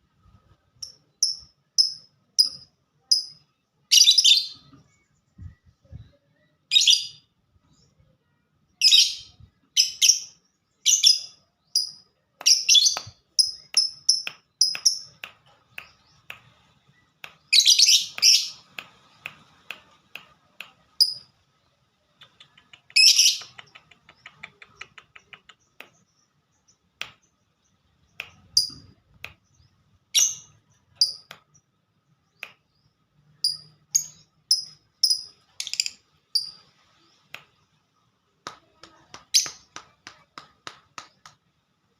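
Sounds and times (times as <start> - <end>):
fast ticking bird song: 0.8 - 5.7, 8.8 - 41.5.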